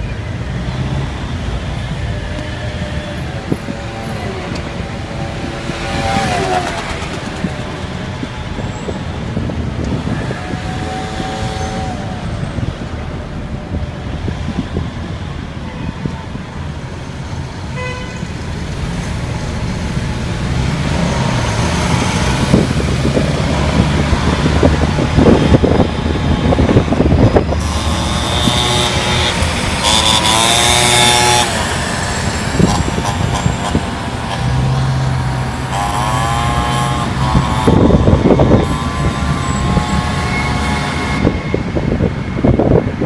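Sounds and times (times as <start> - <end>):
engine and road hum: 0.0 - 43.0
vehicles passing: 0.0 - 43.0.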